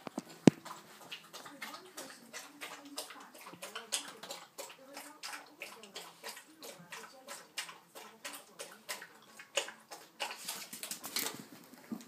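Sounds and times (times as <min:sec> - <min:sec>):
puppy lapping water from metal bowl: 0:00.0 - 0:12.0.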